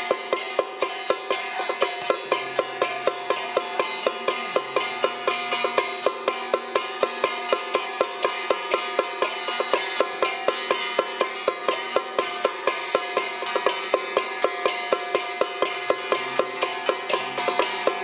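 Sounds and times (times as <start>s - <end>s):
drum strokes: 0.0s - 18.0s
gongs and cymbals clashing: 0.0s - 18.0s.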